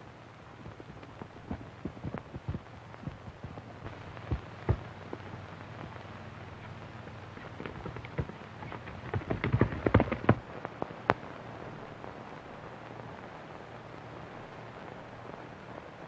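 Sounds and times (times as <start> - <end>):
crackles and pops: 0.0 - 16.0
film soundtrack hum and hiss: 0.0 - 16.0.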